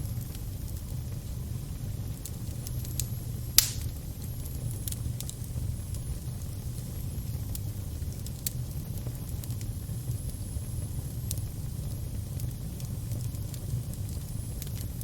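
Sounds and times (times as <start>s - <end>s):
fire crackling: 0.0s - 15.0s
fire popping: 0.0s - 15.0s.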